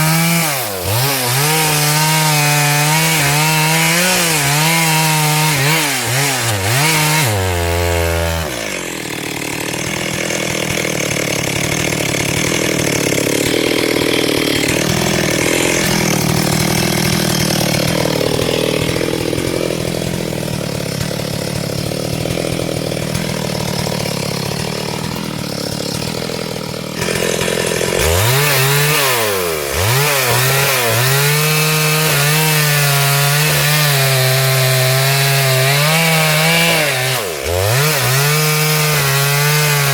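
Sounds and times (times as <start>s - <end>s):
chain rasping through log: 0.0s - 39.9s
chainsaw revving and cutting: 0.0s - 39.9s.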